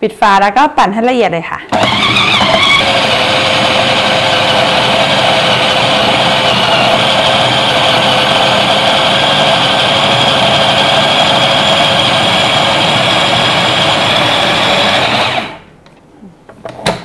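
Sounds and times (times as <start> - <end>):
food processor grinding bread: 1.7 - 15.6.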